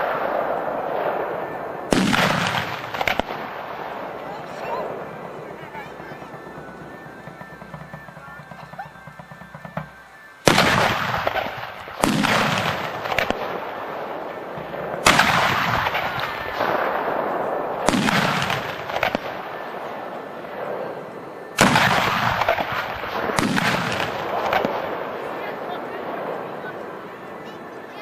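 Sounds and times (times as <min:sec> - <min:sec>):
cannon shots with rolling echo: 0:00.0 - 0:28.0.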